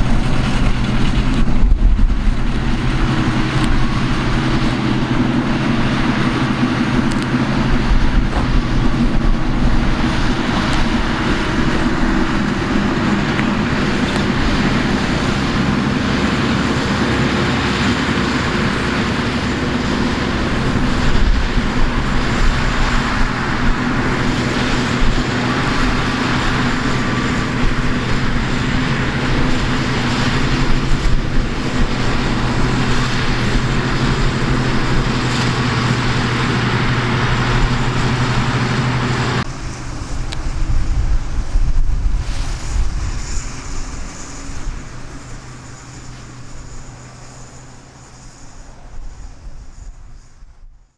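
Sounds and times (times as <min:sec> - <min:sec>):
combine harvester running: 0:00.0 - 0:50.6.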